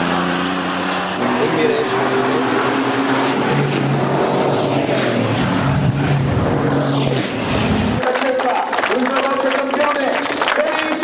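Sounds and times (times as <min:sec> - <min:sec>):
truck engine passing at speed: 0:00.0 - 0:09.0.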